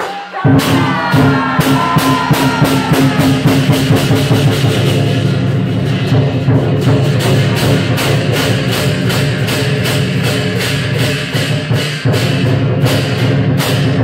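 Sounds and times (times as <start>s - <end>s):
clashing cymbals: 0.0s - 14.0s
drum beaten steadily: 0.0s - 14.0s.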